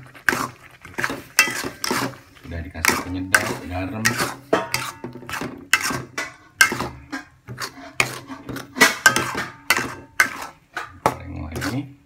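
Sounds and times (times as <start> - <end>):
spatula scraping metal wok: 0.0 - 12.0.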